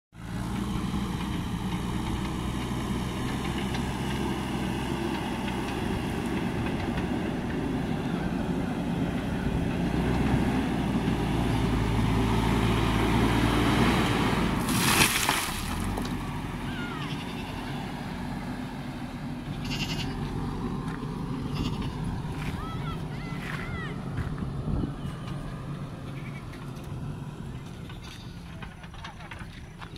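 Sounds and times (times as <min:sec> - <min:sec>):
diesel engine running: 0:00.2 - 0:29.9.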